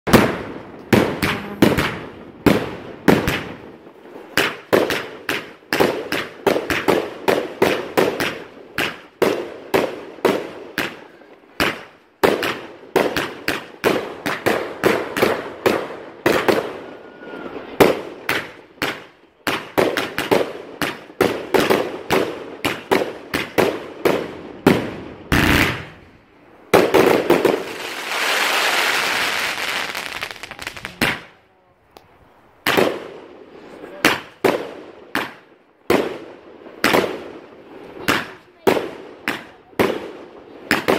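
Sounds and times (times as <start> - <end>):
fireworks banging and cracking: 0.1 - 31.4, 32.6 - 40.9.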